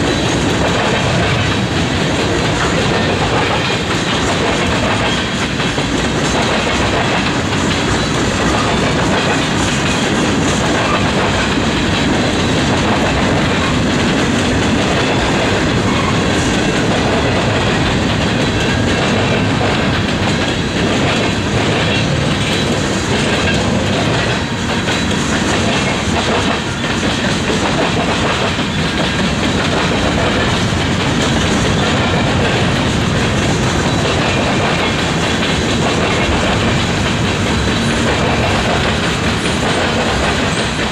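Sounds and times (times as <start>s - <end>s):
train wheels rumbling on rail: 0.0s - 40.9s
wheels clickety-clack on rail joints: 0.0s - 40.9s.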